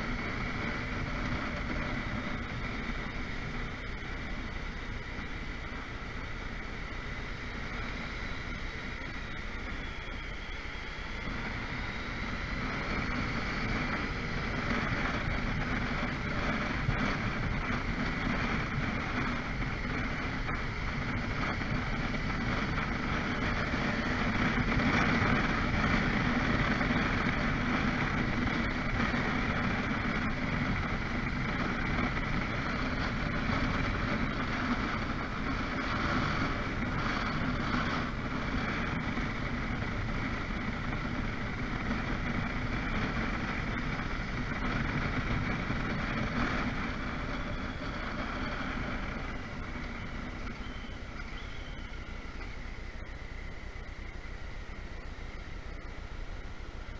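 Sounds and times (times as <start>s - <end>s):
motorcycle engine: 0.0s - 56.9s
wind rush on microphone: 0.0s - 56.9s.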